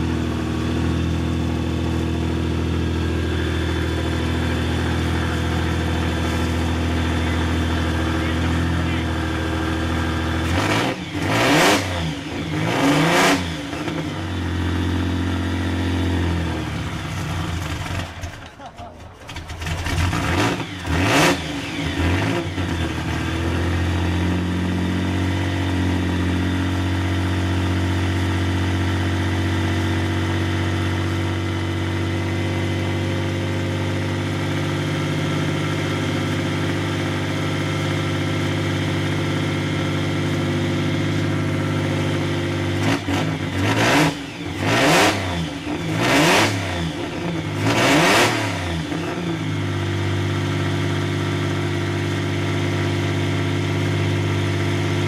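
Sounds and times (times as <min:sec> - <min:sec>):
engine revving: 0:00.0 - 0:18.4, 0:19.3 - 0:33.4, 0:34.0 - 0:55.0
race car engine idling: 0:00.0 - 0:47.7, 0:48.6 - 0:55.0.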